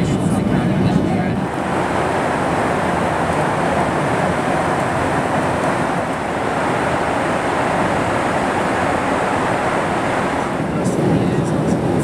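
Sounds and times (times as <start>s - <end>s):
jet airliner roar: 0.0s - 12.0s.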